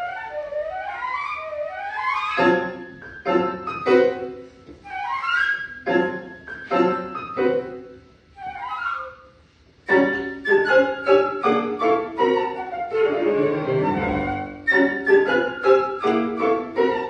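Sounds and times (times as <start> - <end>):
flute: 0.0 - 3.0, 4.8 - 7.4, 8.3 - 17.0
piano: 0.0 - 17.0.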